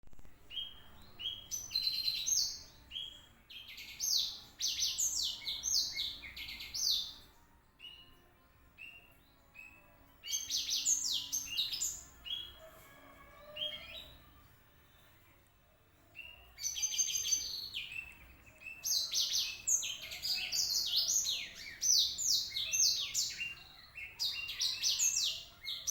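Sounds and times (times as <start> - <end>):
bird singing high chirps: 0.4 - 8.2, 8.8 - 12.7, 13.4 - 14.2, 16.1 - 25.9.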